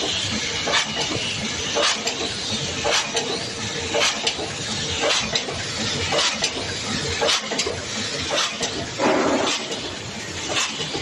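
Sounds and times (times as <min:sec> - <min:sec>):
machine clattering: 0:00.0 - 0:11.0.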